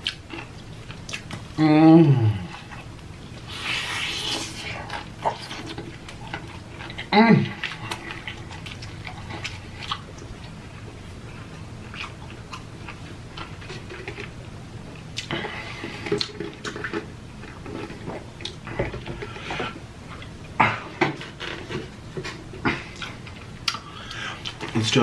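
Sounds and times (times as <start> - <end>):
person chewing food: 0.0 - 1.6, 2.2 - 24.8.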